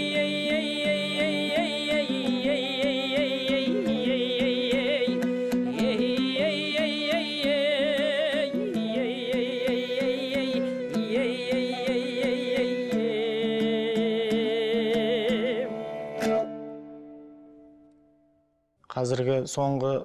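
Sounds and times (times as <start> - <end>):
bowed fiddles playing slow melody: 0.0 - 17.4.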